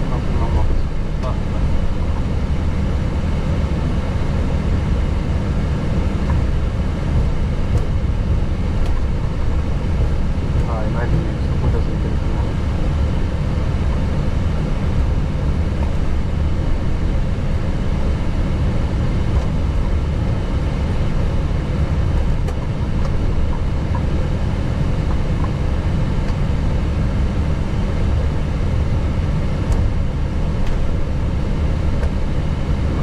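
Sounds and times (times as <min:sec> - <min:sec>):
aircraft cockpit engine rumble: 0:00.0 - 0:33.0.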